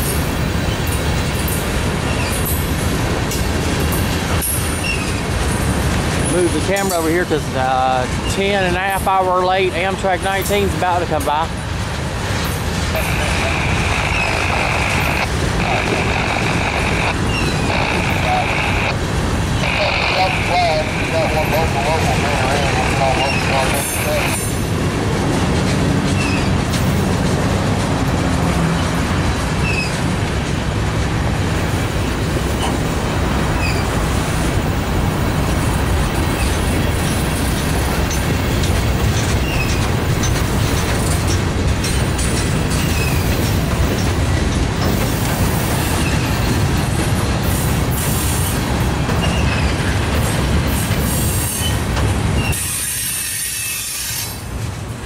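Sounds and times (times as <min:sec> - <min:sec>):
freight train wheel rumble: 0:00.0 - 0:55.0.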